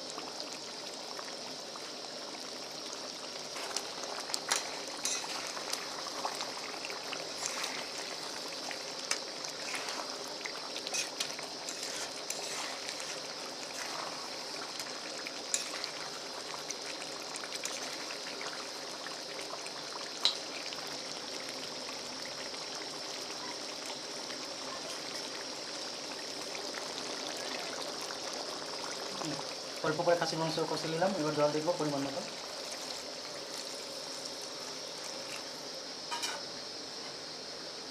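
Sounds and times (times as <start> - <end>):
meat sizzling in oil: 0.0 - 37.5.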